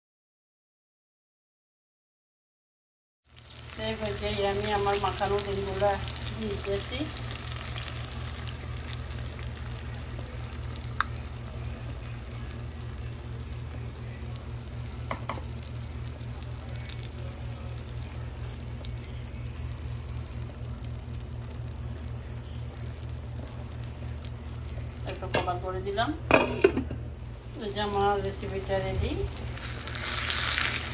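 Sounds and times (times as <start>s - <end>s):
eggs sizzling in hot oil: 3.3s - 30.9s.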